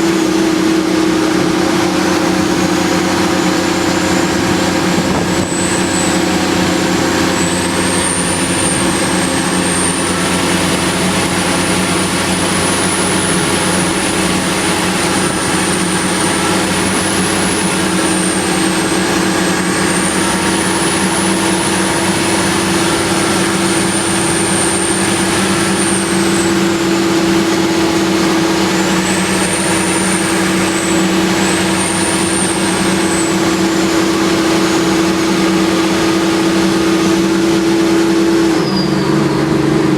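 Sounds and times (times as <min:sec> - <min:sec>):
thin high whine: 0:00.0 - 0:39.9
truck engine running: 0:00.0 - 0:39.9
wind and road noise: 0:00.0 - 0:39.9.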